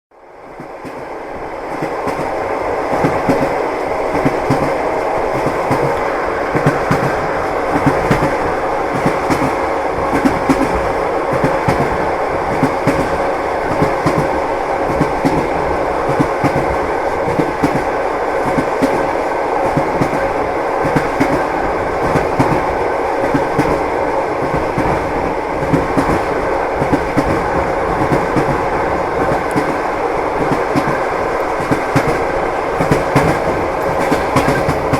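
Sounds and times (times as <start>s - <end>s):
train wheels clacking on rails: 0.5s - 34.9s.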